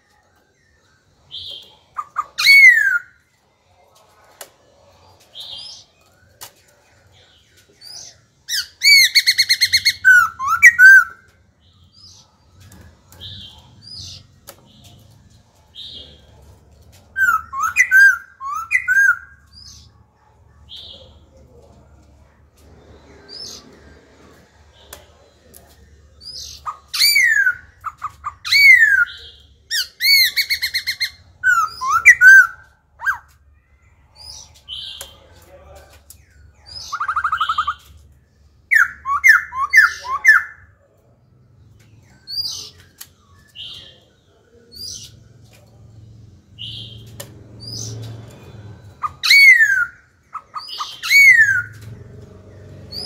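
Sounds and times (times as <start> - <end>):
bird singing varied song: 0.0 - 53.0.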